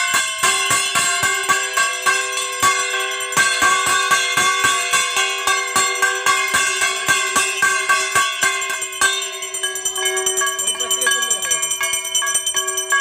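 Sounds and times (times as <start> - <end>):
brass hand bell ringing rapidly: 0.0 - 13.0.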